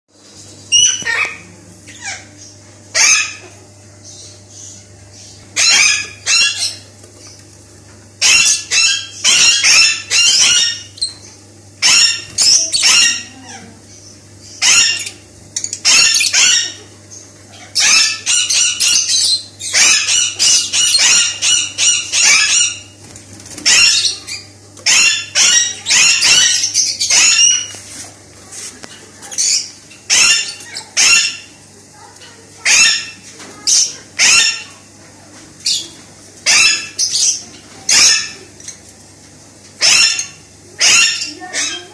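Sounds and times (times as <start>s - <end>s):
steady low hum: 0.1s - 41.9s
lovebirds chirping shrilly: 0.6s - 6.9s, 8.2s - 11.2s, 11.8s - 27.8s, 29.2s - 34.8s, 35.6s - 38.8s, 39.8s - 41.9s.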